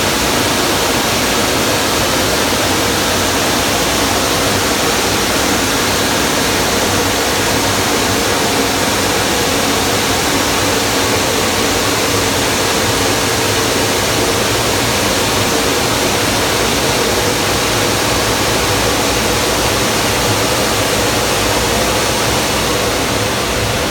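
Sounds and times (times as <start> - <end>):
blower dryer rush of air: 0.0 - 23.9.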